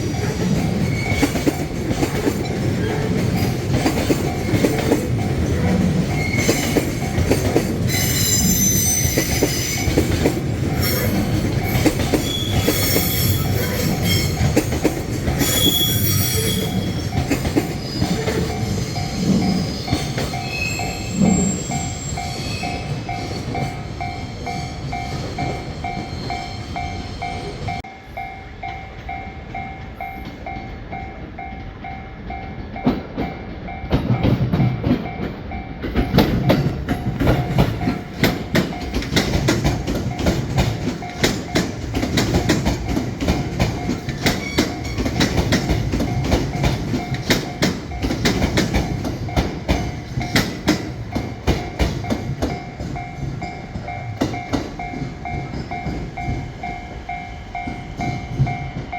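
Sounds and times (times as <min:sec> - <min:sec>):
level-crossing warning bell ringing: 0:00.0 - 0:58.9
train rumble and wheel squeal: 0:00.0 - 0:58.9.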